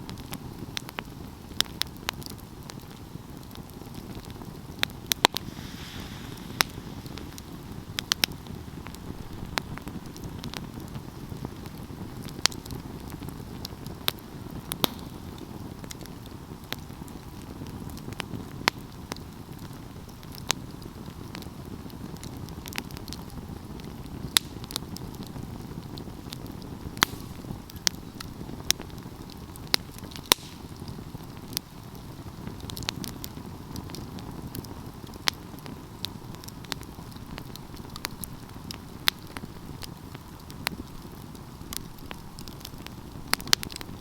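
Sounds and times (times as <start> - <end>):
fire crackles and pops: 0.0 - 44.0
rush of flames: 0.0 - 44.0.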